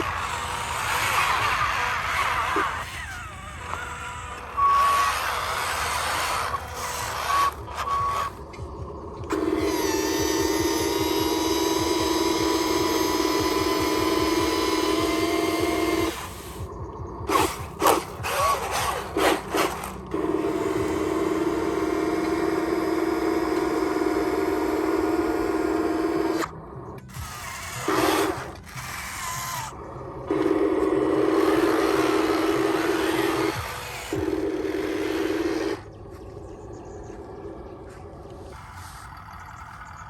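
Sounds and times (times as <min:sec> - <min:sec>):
sharp clicks and scraping: 0:00.0 - 0:35.9
small electric motors whining: 0:00.0 - 0:40.0.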